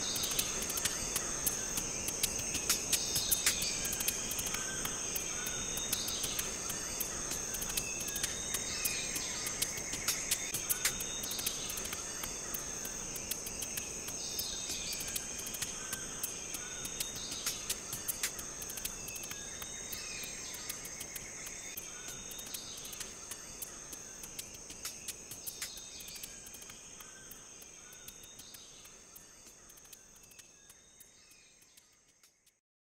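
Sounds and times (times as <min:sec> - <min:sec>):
high-pitched insect chorus: 0:00.0 - 0:32.4
sharp clicks: 0:00.0 - 0:32.6.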